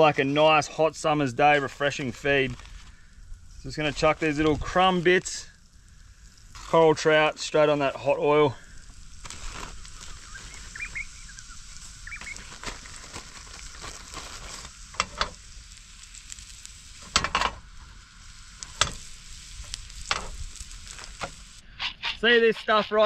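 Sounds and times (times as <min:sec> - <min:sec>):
fish frying in oil: 0:01.8 - 0:21.6.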